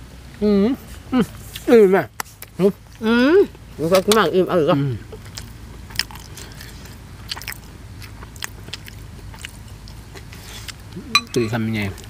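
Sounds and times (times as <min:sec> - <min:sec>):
people chewing food: 0:01.2 - 0:12.0.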